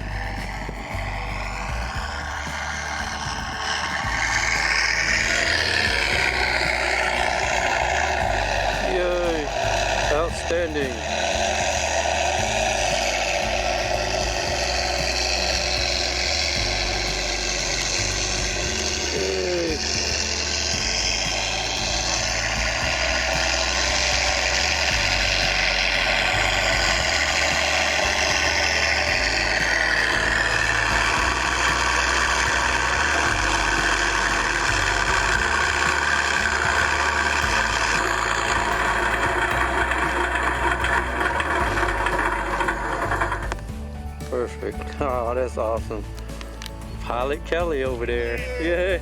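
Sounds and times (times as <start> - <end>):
model plane piston engine sound: 0.0 - 49.0.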